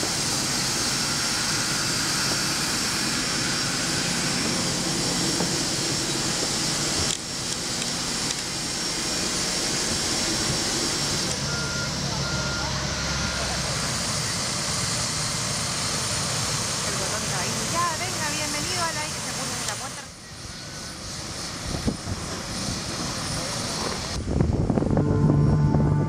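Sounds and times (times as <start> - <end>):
jet engine whine and rush: 0.0 - 26.0.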